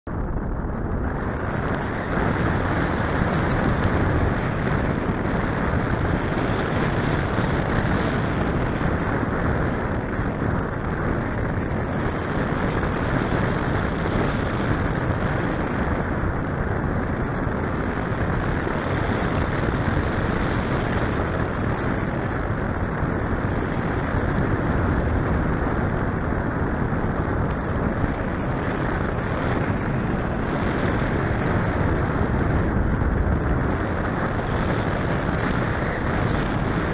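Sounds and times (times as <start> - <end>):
airflow buffeting microphone: 0.0 - 36.9.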